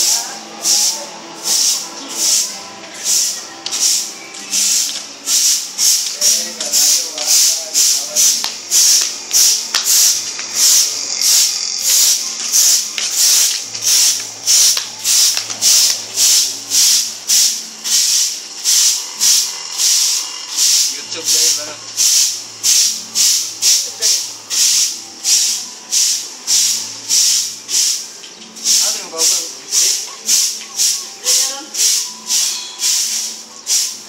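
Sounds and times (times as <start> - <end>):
broom sweeping concrete floor: 0.0 - 34.0.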